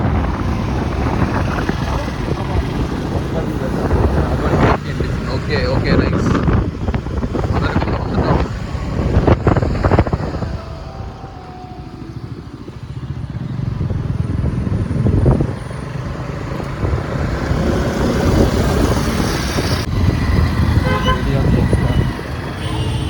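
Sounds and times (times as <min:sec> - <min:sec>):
motorcycle riding on road: 0:00.0 - 0:23.0.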